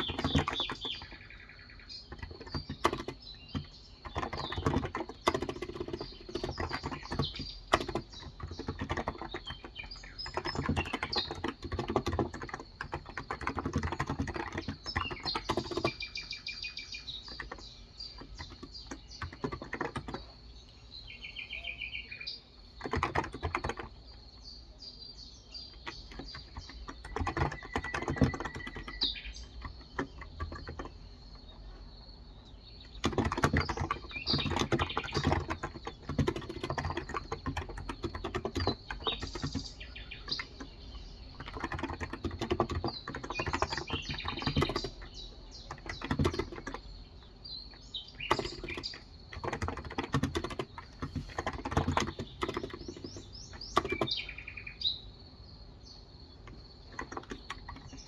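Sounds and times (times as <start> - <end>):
keyboard typing: 0.0 - 24.5, 25.3 - 54.6, 56.3 - 58.0
birds chirping: 0.0 - 58.0.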